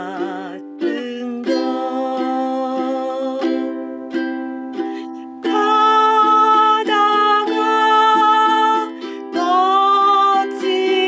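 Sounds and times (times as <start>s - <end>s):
ukulele chords strummed: 0.0s - 11.0s.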